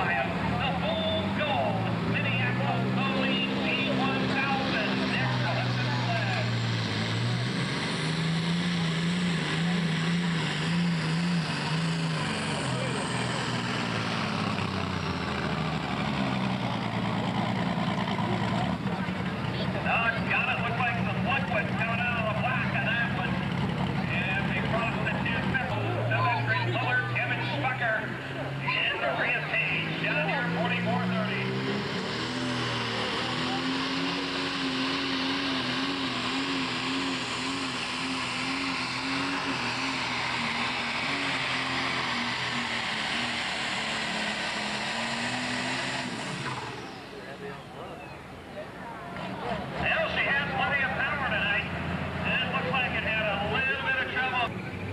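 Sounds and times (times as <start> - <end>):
diesel engine running hard: 0.0 - 54.9.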